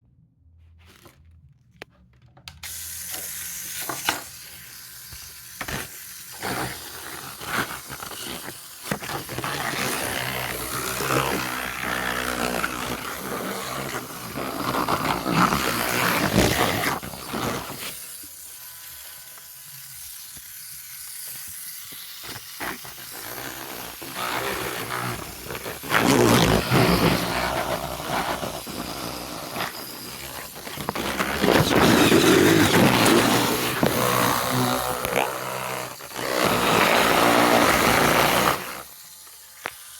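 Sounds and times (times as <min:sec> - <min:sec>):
small electric motor whirring: 0:02.6 - 0:39.9
rough grinding noise: 0:05.6 - 0:20.4, 0:21.2 - 0:39.9.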